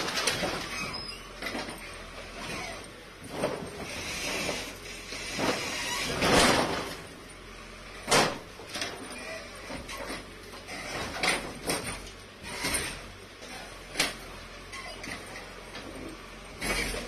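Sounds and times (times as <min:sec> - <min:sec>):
bulldozer scraping and crashing: 0:00.0 - 0:17.0.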